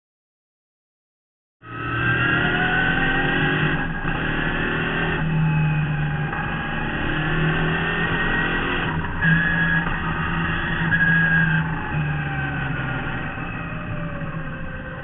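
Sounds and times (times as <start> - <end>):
car engine accelerating: 1.6 - 15.0.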